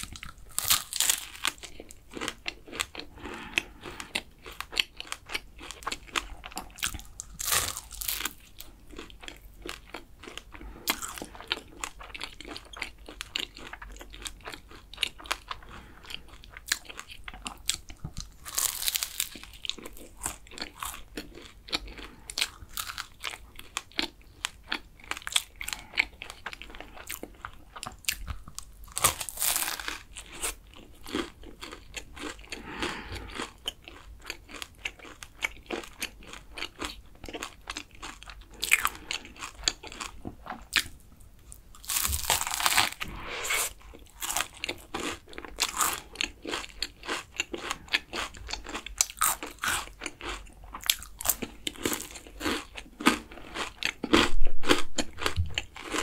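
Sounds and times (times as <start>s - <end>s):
crunching and chewing pastry: 0.0s - 56.0s.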